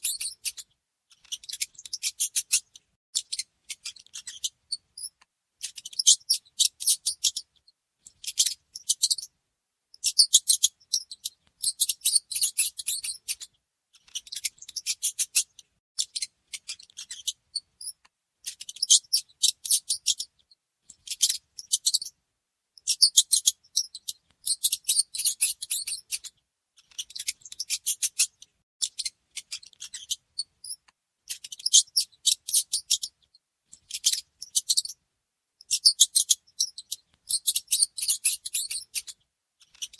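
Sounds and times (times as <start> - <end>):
mice squeaking: 0.0 - 9.3, 10.0 - 22.2, 22.8 - 35.0, 35.6 - 39.9.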